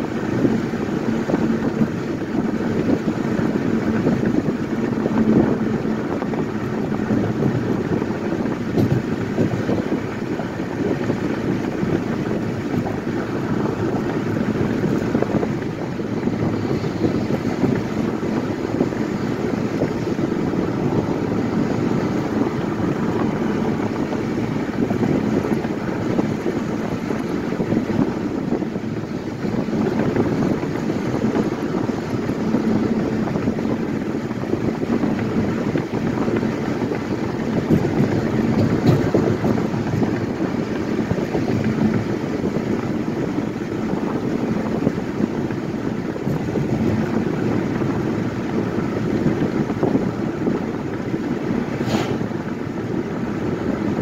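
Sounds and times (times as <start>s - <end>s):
tyres and engine drone: 0.0s - 54.0s
wind rush: 0.0s - 54.0s.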